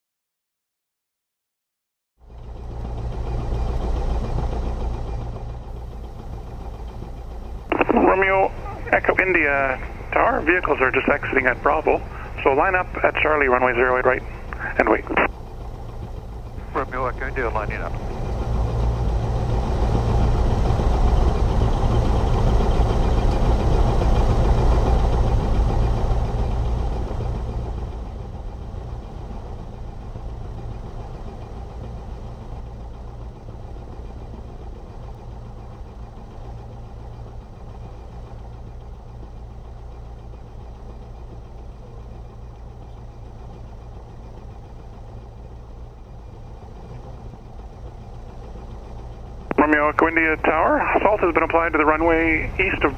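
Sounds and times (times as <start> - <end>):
light aircraft engine running: 2.2 - 52.9.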